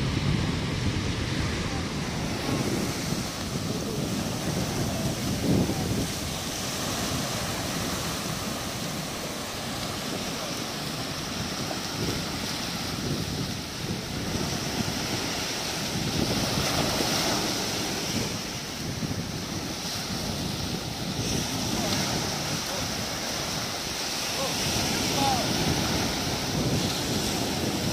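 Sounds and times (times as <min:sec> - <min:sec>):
surf breaking on a beach: 0:00.0 - 0:27.9
wind buffeting microphone: 0:00.0 - 0:27.9.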